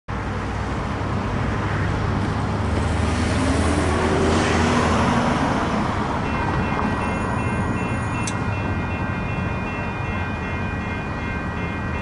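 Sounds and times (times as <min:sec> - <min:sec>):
cars driving past: 0:00.1 - 0:12.0.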